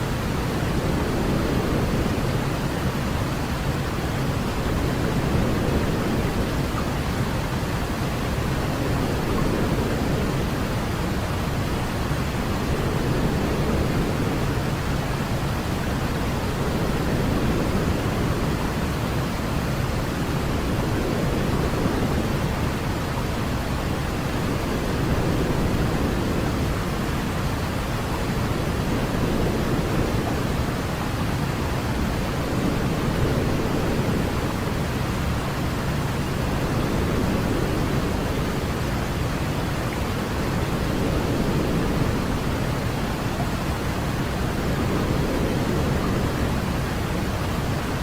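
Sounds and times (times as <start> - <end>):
continuous low hiss: 0.0 - 48.0.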